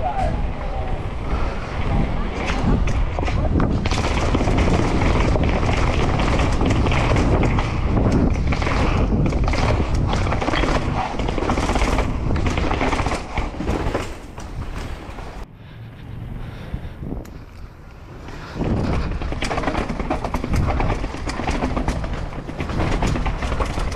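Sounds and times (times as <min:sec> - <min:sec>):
wind buffeting microphone: 0:00.0 - 0:23.9
bike clattering over rough ground: 0:01.4 - 0:15.4, 0:18.2 - 0:23.9.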